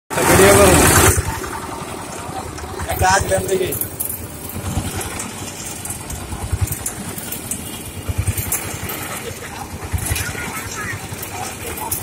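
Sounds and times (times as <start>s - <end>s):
small engine chugging: 0.1s - 12.0s.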